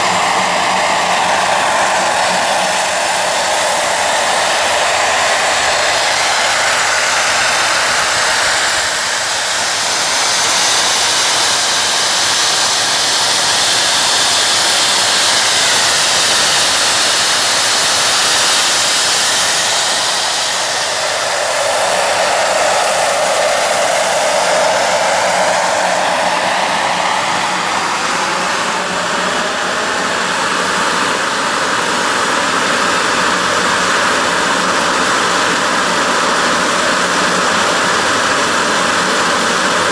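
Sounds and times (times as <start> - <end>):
jet engine roaring with turbine whine: 0.0 - 39.9.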